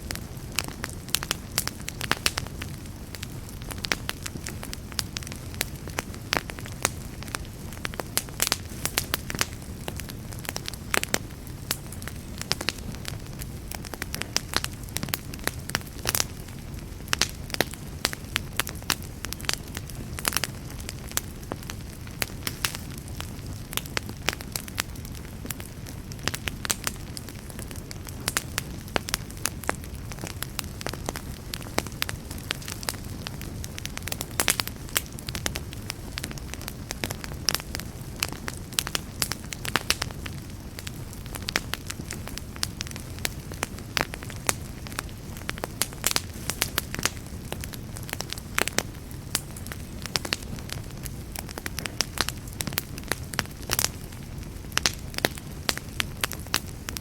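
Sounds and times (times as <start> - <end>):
burning wood crackling: 0.0 - 57.0
campfire rumble: 0.0 - 57.0.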